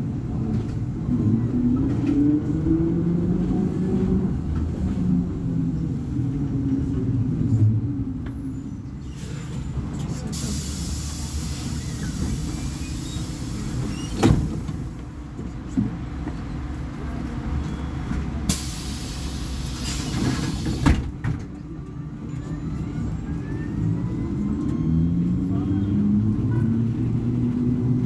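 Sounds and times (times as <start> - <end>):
bus diesel engine running: 0.0 - 28.0.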